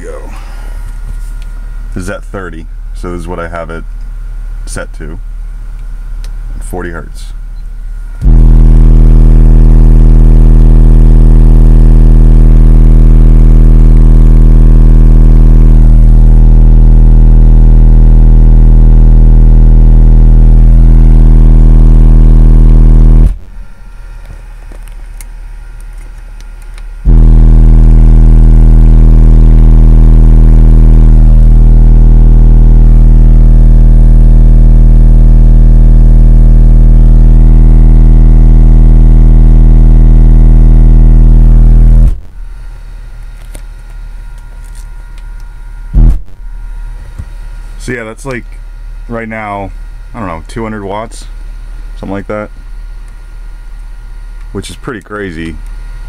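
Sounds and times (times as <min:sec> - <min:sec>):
deep test tone hum: 0:00.0 - 0:56.0.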